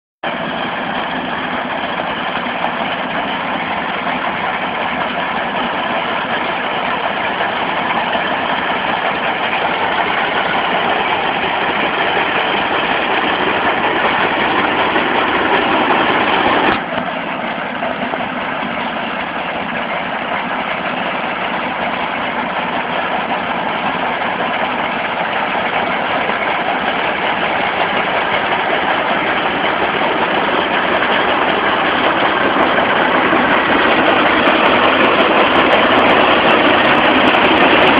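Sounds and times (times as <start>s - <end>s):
diesel engine running steadily: 0.2s - 37.9s.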